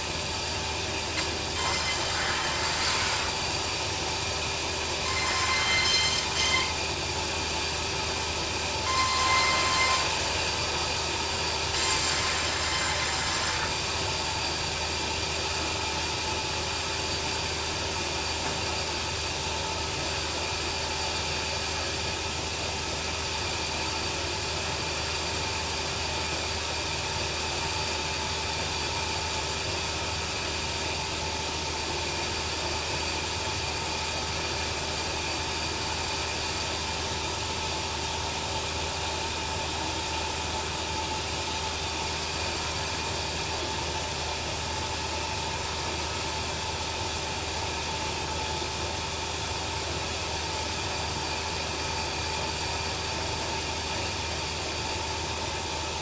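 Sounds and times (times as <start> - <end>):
sawmill machine running: 0.0 - 56.0.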